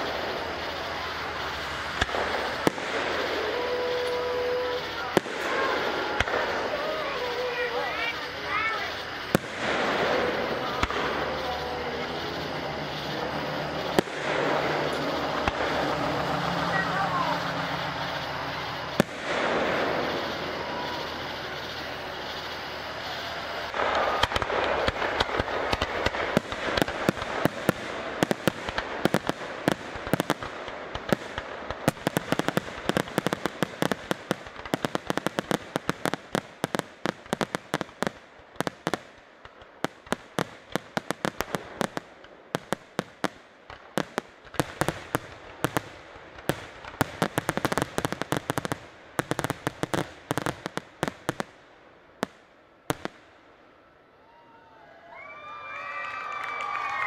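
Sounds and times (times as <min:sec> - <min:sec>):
fireworks bangs and pops: 0:00.0 - 0:53.5, 0:55.4 - 0:57.0
fireworks hiss: 0:00.0 - 0:53.9.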